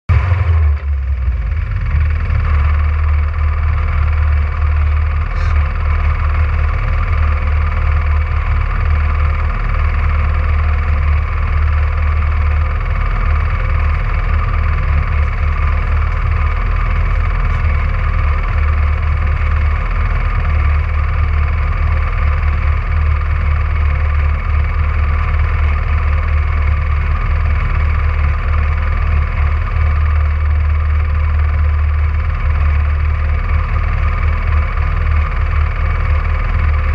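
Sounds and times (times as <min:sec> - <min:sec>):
car engine droning steadily: 0:00.0 - 0:36.9.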